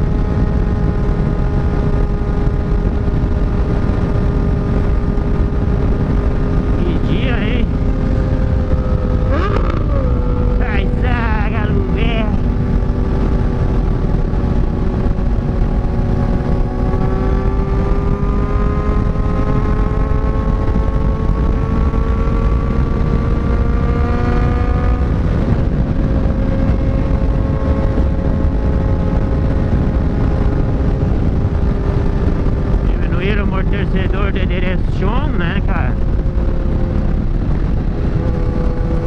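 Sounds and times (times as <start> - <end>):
motorcycle engine at road speed: 0.0 - 39.0
wind noise: 0.0 - 39.0.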